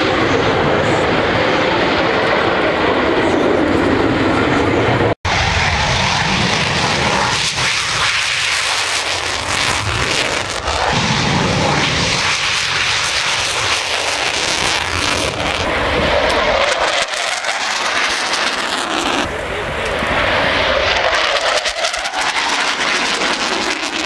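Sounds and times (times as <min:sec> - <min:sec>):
jet engine flying low: 0:00.0 - 0:24.0.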